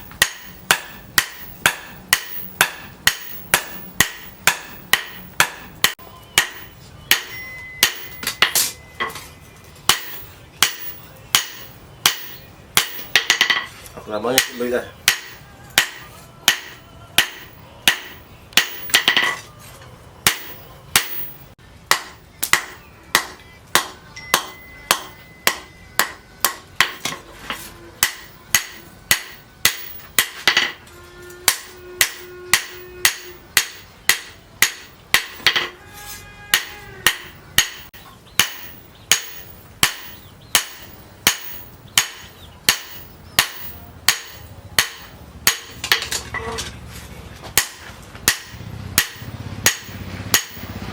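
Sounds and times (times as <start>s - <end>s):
hammer striking steel on anvil: 0.0s - 19.5s, 20.2s - 35.8s, 36.5s - 46.7s, 47.5s - 50.8s.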